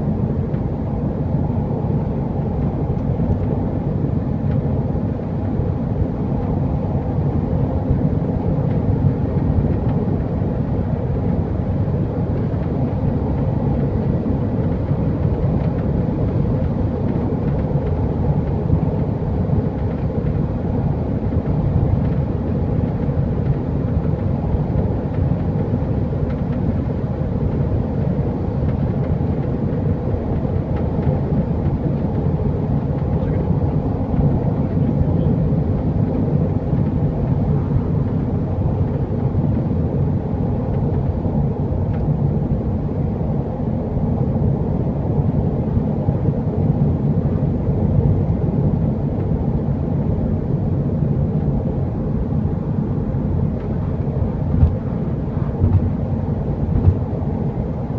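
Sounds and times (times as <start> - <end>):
road and engine noise: 0.0 - 57.9.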